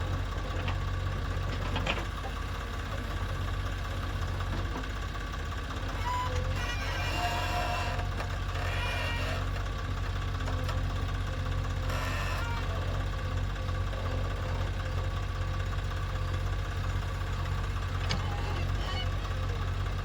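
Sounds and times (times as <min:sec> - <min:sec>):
heavy diesel engine humming: 0:00.0 - 0:20.0.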